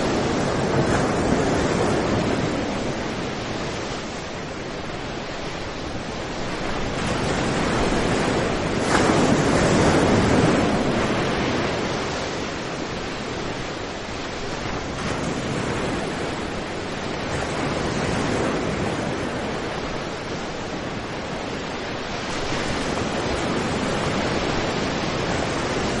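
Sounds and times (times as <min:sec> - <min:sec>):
waves crashing on a beach: 0:00.0 - 0:26.0.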